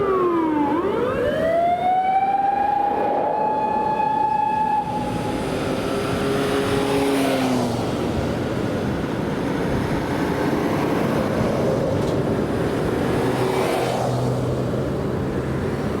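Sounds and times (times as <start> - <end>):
vehicles passing at speed: 0.0 - 16.0.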